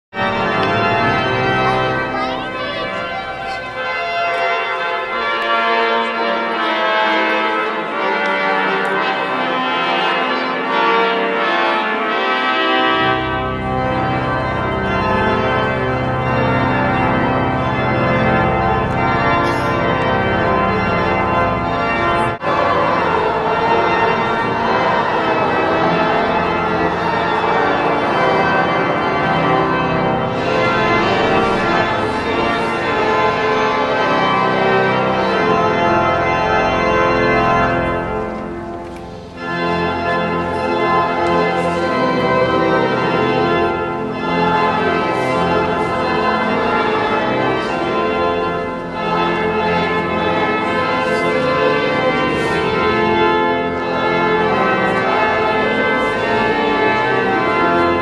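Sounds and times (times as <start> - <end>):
organ playing sustained chords: 0.2 - 58.0.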